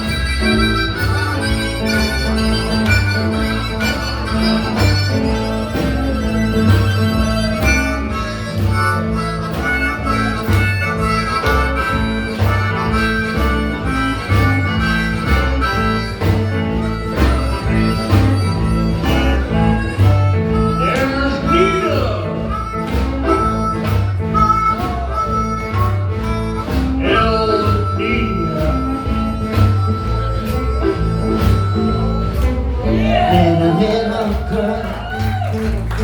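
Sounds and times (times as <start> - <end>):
harmonica: 0.0 - 34.2
live blues band: 0.0 - 36.0.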